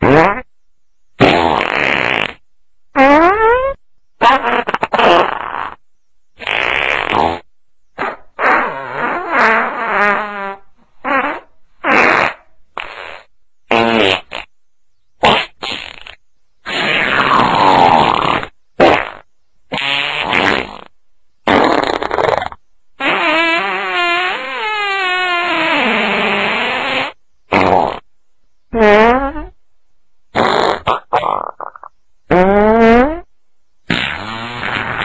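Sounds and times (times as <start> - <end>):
fart sounds: 0.0 - 0.5, 1.2 - 2.4, 3.0 - 5.8, 6.4 - 14.5, 15.2 - 28.1, 28.7 - 29.6, 30.3 - 33.3, 33.9 - 35.0.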